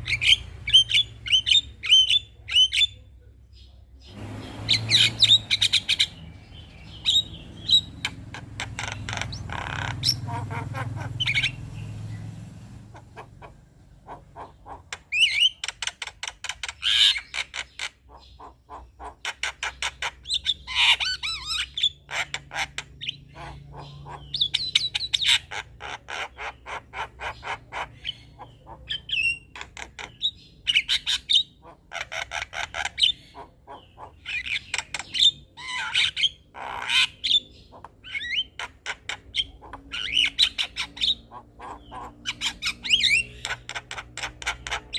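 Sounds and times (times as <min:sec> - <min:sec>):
myna bird chattering song: 0:00.0 - 0:44.9.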